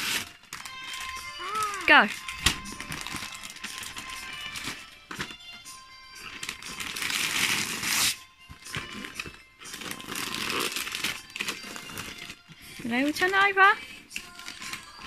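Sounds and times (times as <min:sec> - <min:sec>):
wrapping paper tearing: 0:00.0 - 0:04.9, 0:06.2 - 0:08.2, 0:08.9 - 0:15.0
faint background music: 0:00.0 - 0:15.0.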